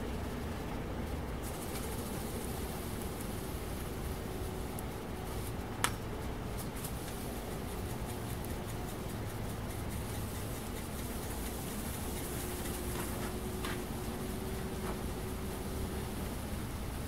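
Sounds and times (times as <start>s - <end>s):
furnace burner hissing and rumbling: 0.0s - 17.0s.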